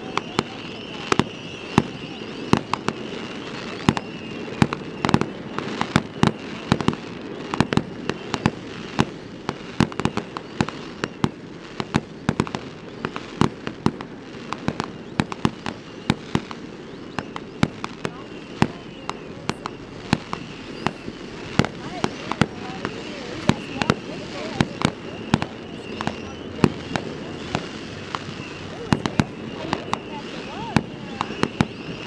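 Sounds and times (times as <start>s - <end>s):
fireworks banging: 0.0s - 32.0s
fireworks crackling: 0.0s - 32.0s.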